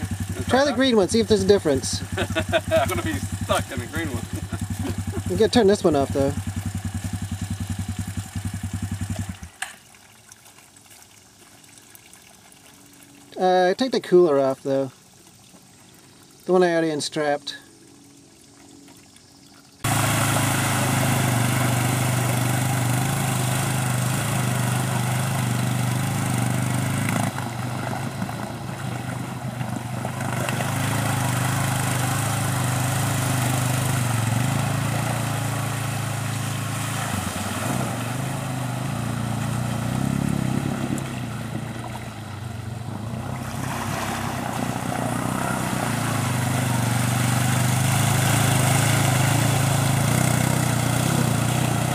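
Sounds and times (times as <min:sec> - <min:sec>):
atv engine running: 0:00.0 - 0:09.8, 0:19.7 - 0:51.9.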